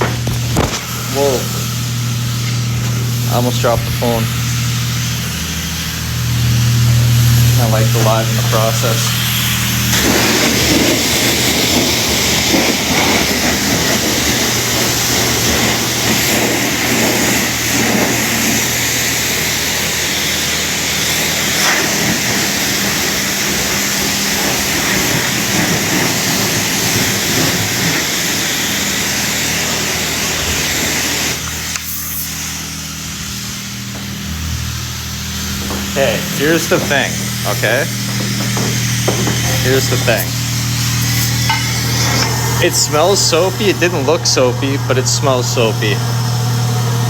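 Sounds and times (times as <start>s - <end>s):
low hum: 0.0s - 47.0s
pressure washer spraying water: 0.0s - 47.0s.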